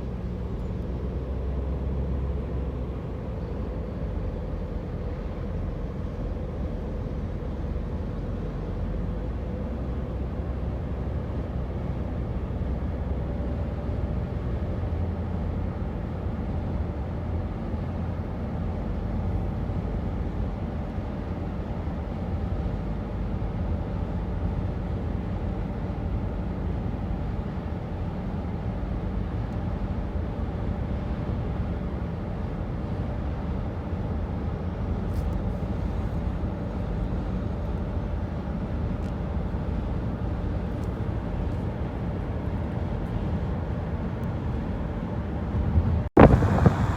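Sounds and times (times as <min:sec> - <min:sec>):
road noise: 0:00.0 - 0:46.9
truck engine rumble: 0:00.0 - 0:46.9.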